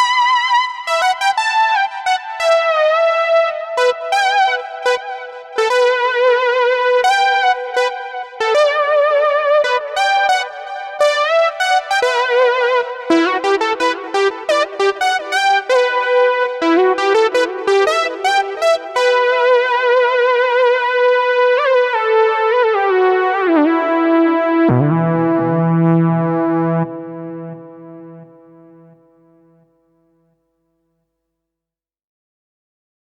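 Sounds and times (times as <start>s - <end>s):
synthesizer with vibrato: 0.0s - 29.1s.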